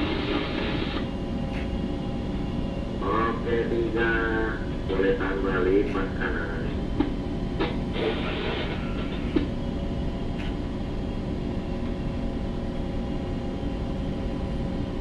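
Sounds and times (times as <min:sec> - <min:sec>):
low rumble of ship machinery: 0:00.0 - 0:15.0
steady tonal hum: 0:00.0 - 0:15.0.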